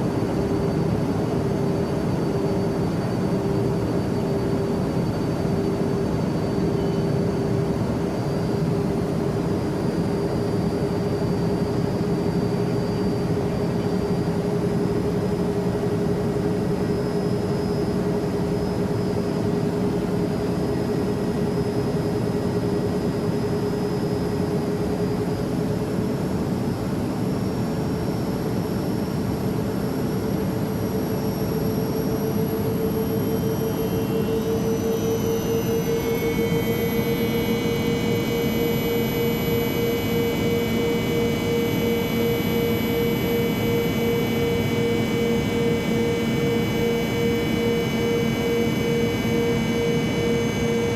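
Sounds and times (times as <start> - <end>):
engine whine: 0.0 - 50.9
jet engines and airflow roar: 0.0 - 50.9.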